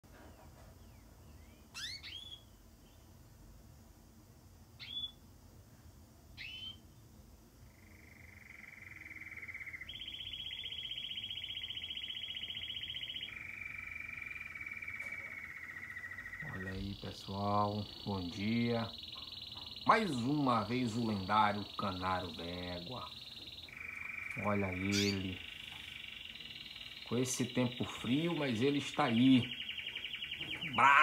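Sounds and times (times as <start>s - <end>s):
canary singing: 0.9s - 3.1s, 4.8s - 5.2s, 6.4s - 7.0s, 7.6s - 31.0s.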